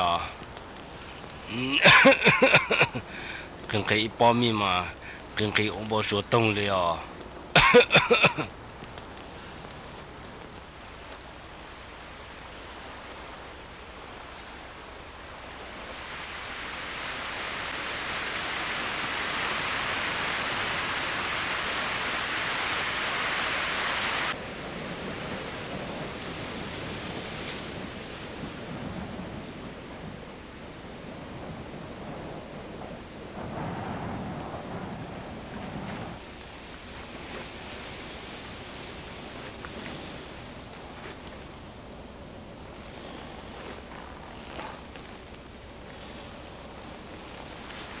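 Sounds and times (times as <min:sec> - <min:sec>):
steady rushing hiss: 0:00.0 - 0:48.0.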